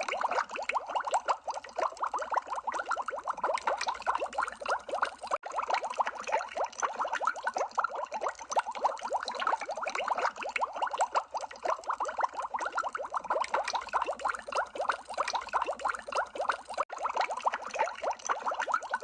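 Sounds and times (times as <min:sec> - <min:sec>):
water bubbling: 0:00.0 - 0:19.0.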